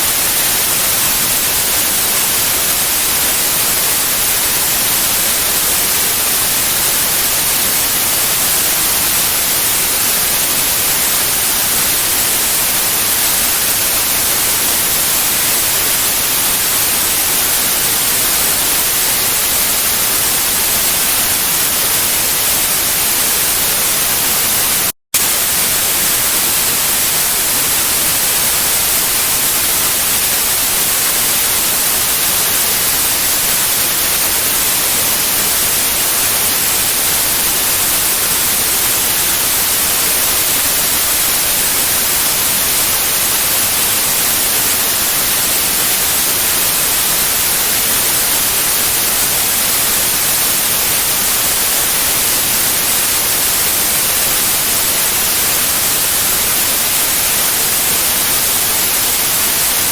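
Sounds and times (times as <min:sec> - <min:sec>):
static hiss: 0:00.0 - 0:59.9.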